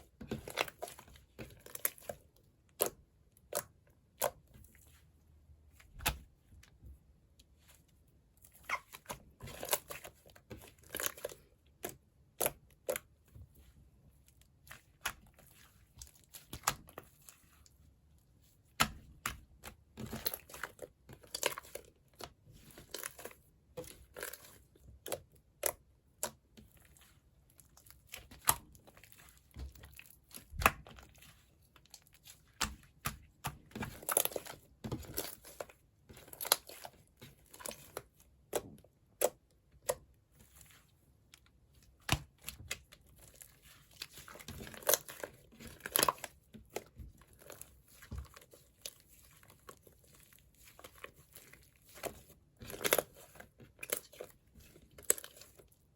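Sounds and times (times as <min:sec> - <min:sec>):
slime squishing with sticky pops: 0:08.2 - 0:13.6, 0:14.3 - 0:55.9.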